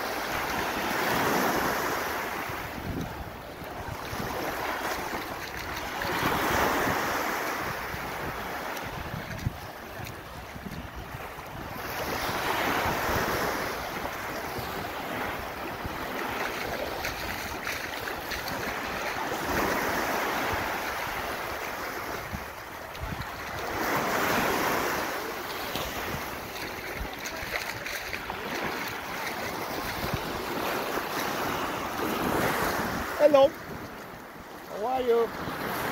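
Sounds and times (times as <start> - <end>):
small waves breaking: 0.0 - 35.9
wind buffeting microphone: 2.4 - 34.0.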